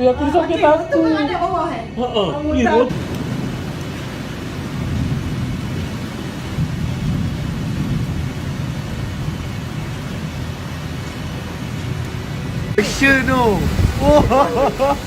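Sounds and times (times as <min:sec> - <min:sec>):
wind buffeting microphone: 0:02.9 - 0:15.0.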